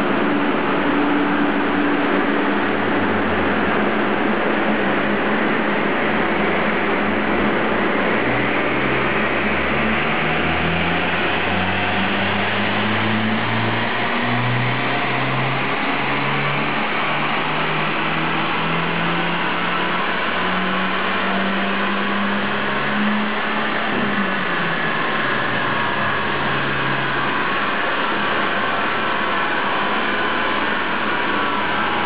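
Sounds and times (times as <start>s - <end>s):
car engine revving on dynamometer: 0.0s - 32.0s.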